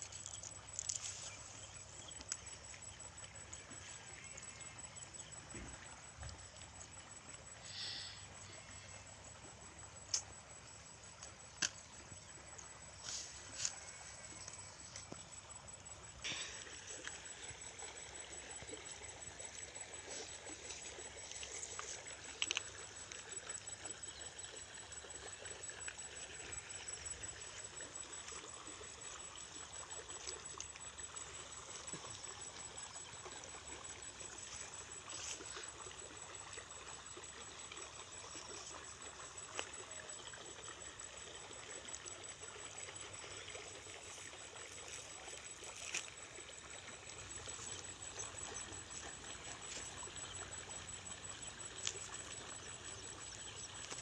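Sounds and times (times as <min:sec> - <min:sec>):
water trickling in a stream: 0:00.0 - 0:54.0.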